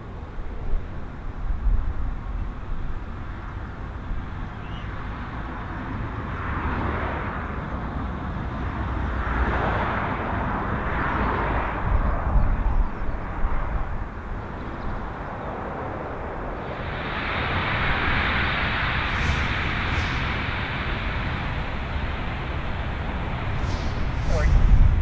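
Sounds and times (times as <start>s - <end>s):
turboprop engines and propellers: 0.0s - 25.0s
wind rumbling on microphone: 0.0s - 25.0s.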